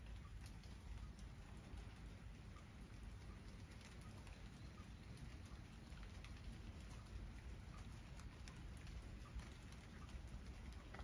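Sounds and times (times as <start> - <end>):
light ticks: 0.0 - 11.0
low rumble and hiss: 0.0 - 11.0.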